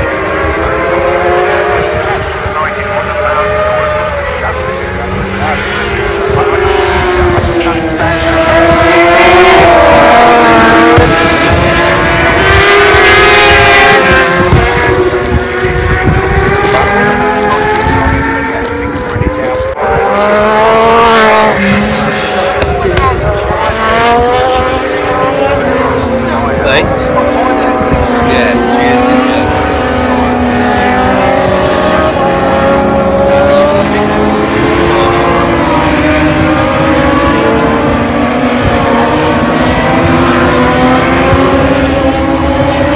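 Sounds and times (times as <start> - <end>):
racing motorcycles passing at speed: 0.0 - 42.9.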